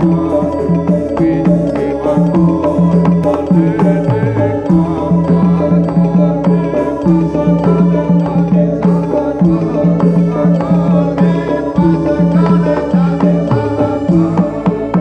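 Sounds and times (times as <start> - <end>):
hand drums: 0.0 - 15.0
pitched percussion: 0.0 - 15.0.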